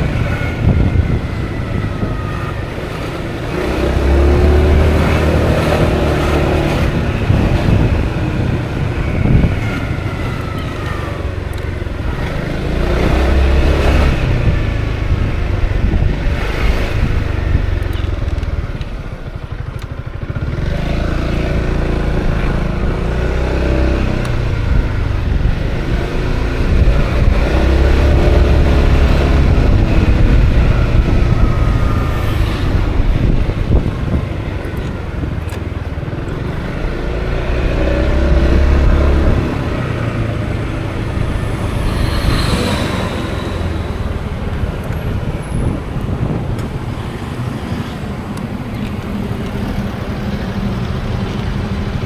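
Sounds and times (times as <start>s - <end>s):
scooter engine running: 0.0s - 52.0s
wind noise on microphone: 0.0s - 52.0s.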